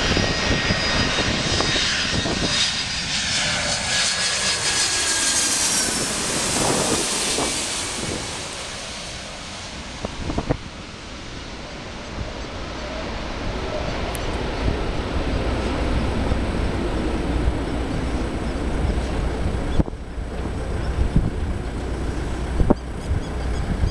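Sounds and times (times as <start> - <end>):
jet engines rushing: 0.0 - 23.9
wind on microphone: 0.0 - 23.9.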